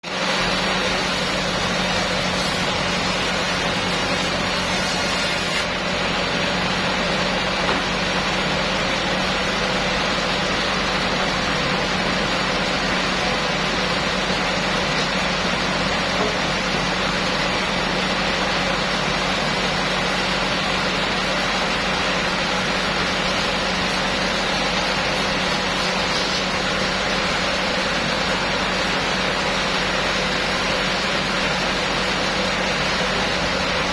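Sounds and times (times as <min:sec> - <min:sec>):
sawmill machinery hum and rush: 0:00.0 - 0:33.9.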